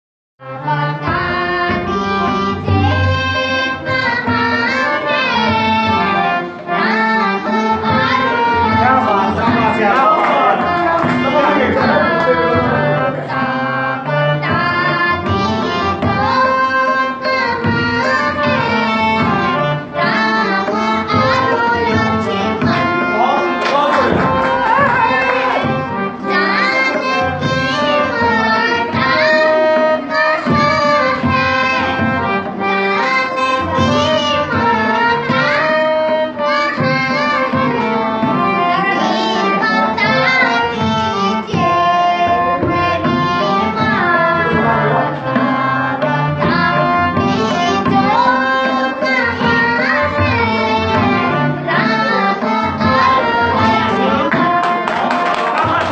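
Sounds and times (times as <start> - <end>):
tabla and instruments playing: 0.4 - 55.9.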